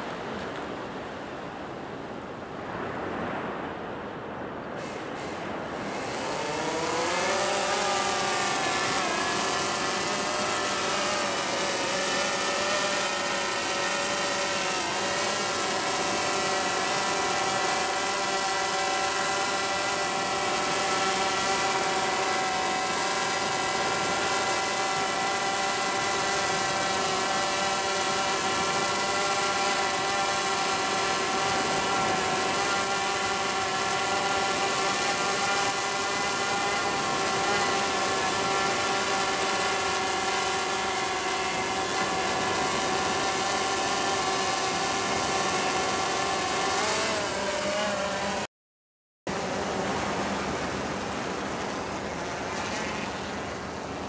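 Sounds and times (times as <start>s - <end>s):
drone propellers whining: 4.8s - 48.4s.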